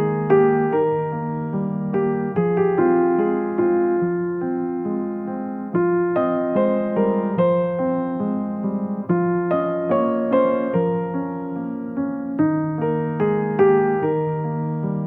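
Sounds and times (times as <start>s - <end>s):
gentle electric piano: 0.0s - 15.0s.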